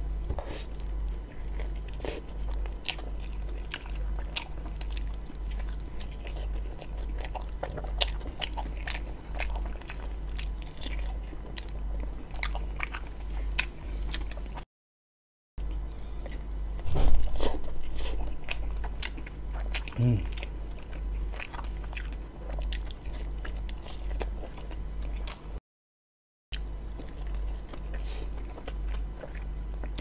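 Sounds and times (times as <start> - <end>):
steady low hum: 0.0 - 14.6, 15.6 - 25.6, 26.6 - 30.0
close chewing with mouth clicks: 0.2 - 14.6, 15.7 - 25.6, 26.5 - 30.0.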